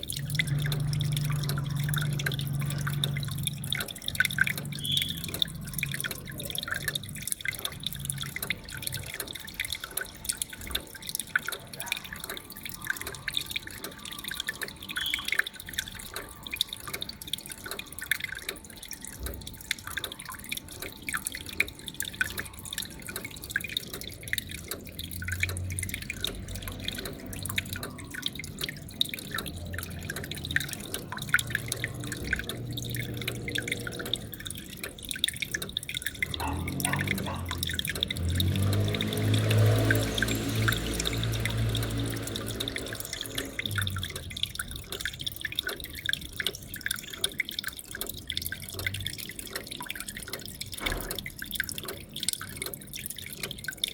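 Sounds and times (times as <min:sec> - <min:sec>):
water dripping and splashing: 0:00.0 - 0:53.9.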